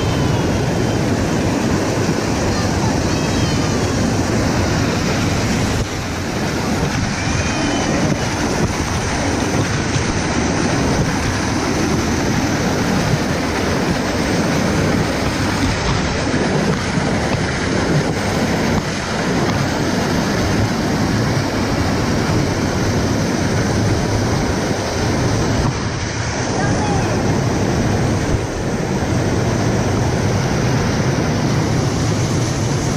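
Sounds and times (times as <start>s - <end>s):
waterfall roaring: 0.0s - 32.9s.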